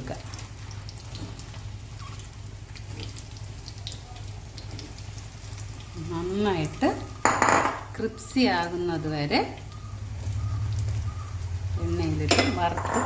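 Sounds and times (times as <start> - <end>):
low steady hum: 0.0 - 13.0
potatoes sizzling in hot oil: 0.0 - 13.0.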